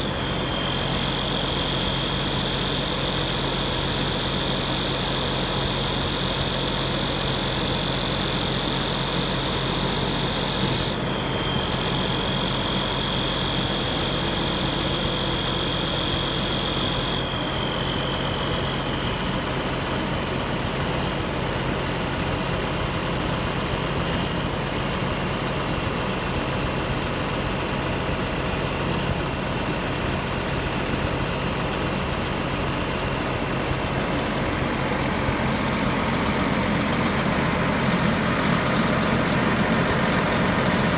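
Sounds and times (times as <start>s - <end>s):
faint high whine: 0.0s - 21.4s, 28.5s - 40.9s
tractor diesel engine idling: 0.0s - 40.9s.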